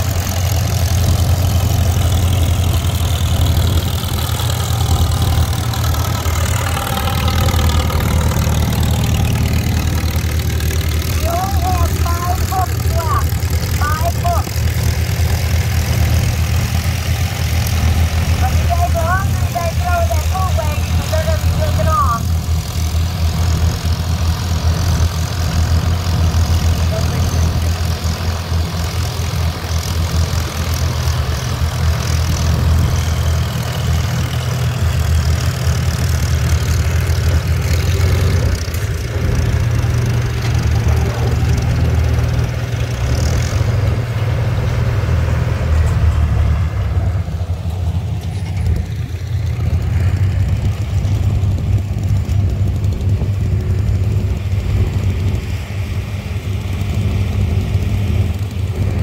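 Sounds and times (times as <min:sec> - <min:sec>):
tractor engine droning: 0:00.0 - 0:59.0.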